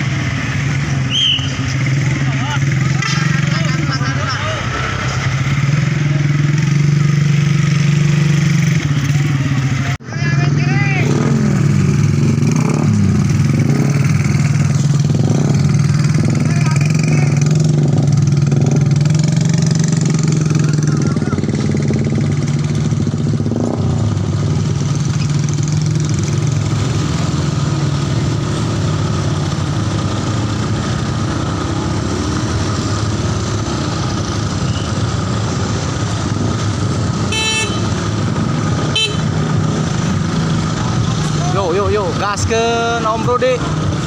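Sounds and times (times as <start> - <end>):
motorcycle engines: 0.0 - 44.0.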